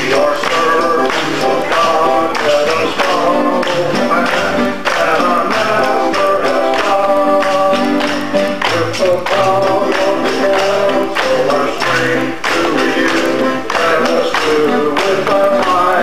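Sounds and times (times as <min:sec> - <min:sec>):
group singing gospel: 0:00.0 - 0:16.0
rhythmic beat: 0:00.0 - 0:16.0.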